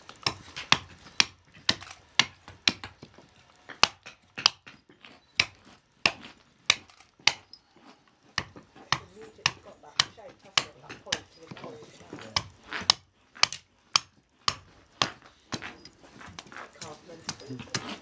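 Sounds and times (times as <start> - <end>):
adze chopping wood: 0.0 - 7.6, 8.2 - 18.0.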